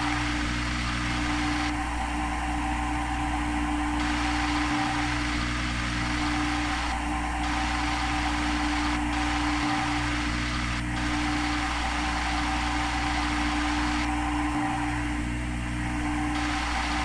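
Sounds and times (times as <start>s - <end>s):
machine hum and whine: 0.0s - 17.0s.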